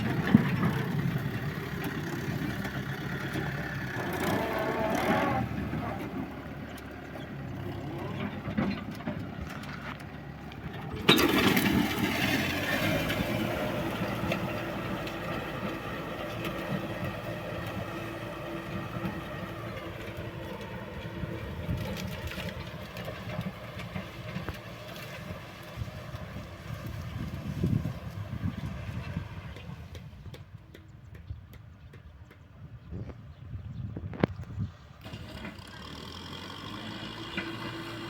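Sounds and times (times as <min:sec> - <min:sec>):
tractor diesel engine running: 0:00.0 - 0:30.8, 0:34.6 - 0:38.0.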